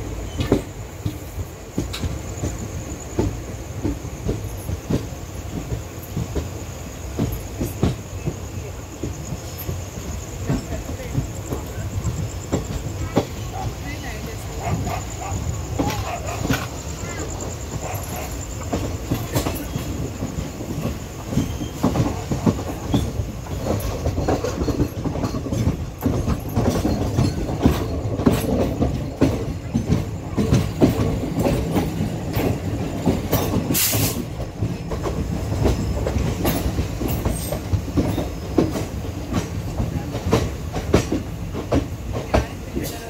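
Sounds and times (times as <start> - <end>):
train rumbling on rails: 0.0 - 43.0
wheels clattering over rail joints: 0.0 - 43.0.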